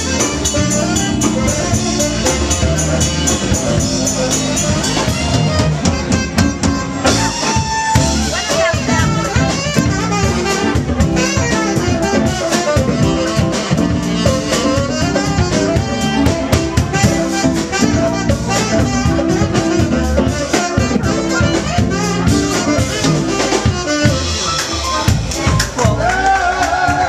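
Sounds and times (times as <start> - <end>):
live band playing loudly: 0.0 - 27.0
steady drum beat: 0.0 - 27.0.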